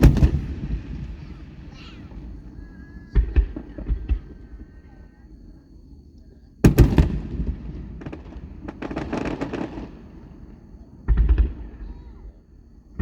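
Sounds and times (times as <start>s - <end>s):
fireworks crackling: 0.0s - 4.9s, 6.6s - 12.3s
firework bangs: 0.0s - 5.0s, 6.6s - 12.4s.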